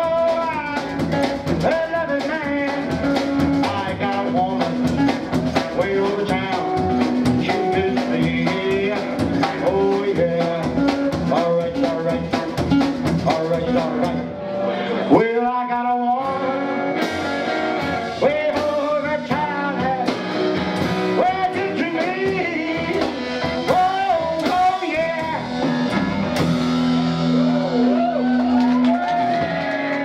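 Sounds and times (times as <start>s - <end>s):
man singing: 0.0s - 25.6s, 29.5s - 30.0s
rockabilly band playing: 0.0s - 30.0s.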